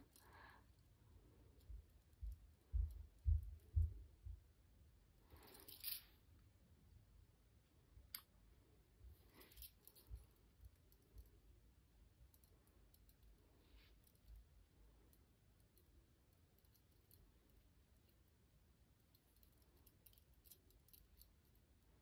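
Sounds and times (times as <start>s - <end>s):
faint clicks and rustles of ribbon: 0.0s - 6.4s, 8.1s - 22.0s.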